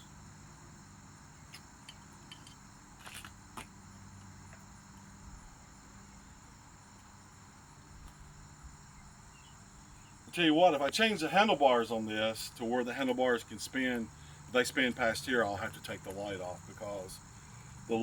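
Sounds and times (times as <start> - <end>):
faint crickets chirring: 0.0 - 18.0.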